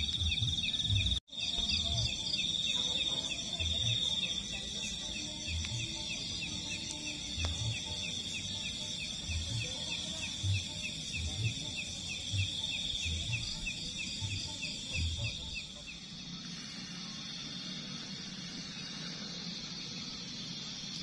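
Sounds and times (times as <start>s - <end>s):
insect chirps: 0.0s - 21.0s
insects droning: 0.0s - 21.0s.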